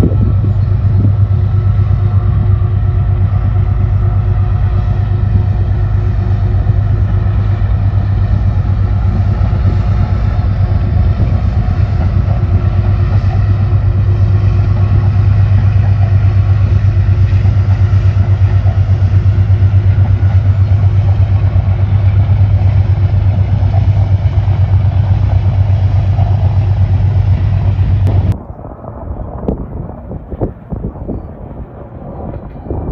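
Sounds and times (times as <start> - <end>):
large vehicle engine rumble: 0.0 - 32.9.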